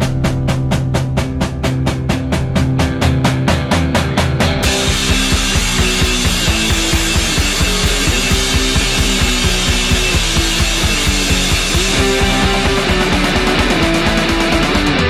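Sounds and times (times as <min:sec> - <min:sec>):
distorted electric guitar: 0:00.0 - 0:15.0
fast drum beat: 0:00.0 - 0:15.0.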